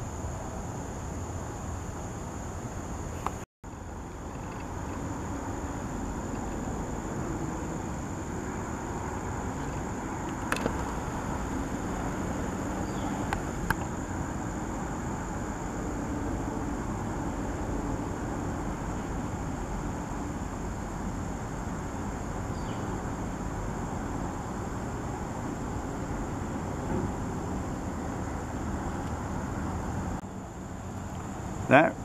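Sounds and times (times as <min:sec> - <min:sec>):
distant road traffic hum: 0:00.0 - 0:32.0
high insect drone: 0:00.0 - 0:32.0.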